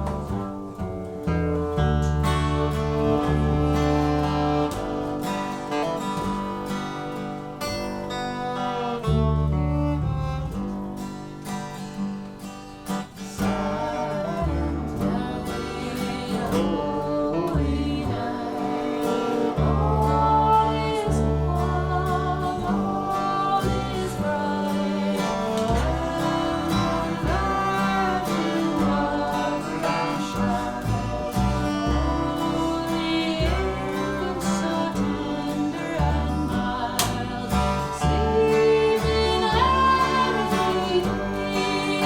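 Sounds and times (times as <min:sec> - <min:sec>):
viola melody: 0:00.0 - 0:12.1, 0:13.3 - 0:42.0
acoustic guitar: 0:00.0 - 0:42.0
bass: 0:00.0 - 0:42.0.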